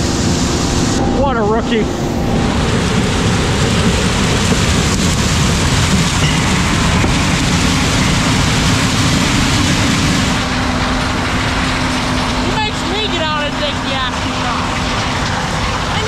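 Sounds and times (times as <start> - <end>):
combine harvester machine noise: 0.0 - 16.0.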